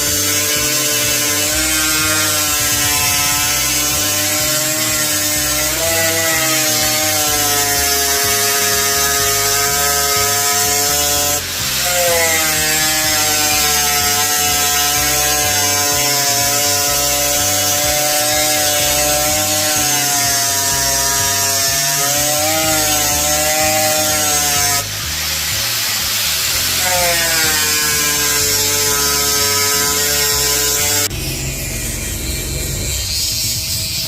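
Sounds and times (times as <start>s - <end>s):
electric motor whining: 0.0s - 34.0s.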